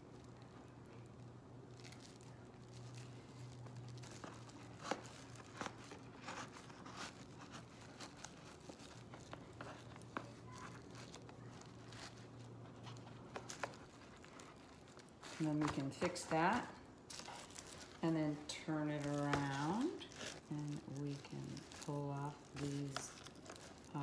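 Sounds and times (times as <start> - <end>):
plastic and foil strips crinkling: 0.0 - 24.0.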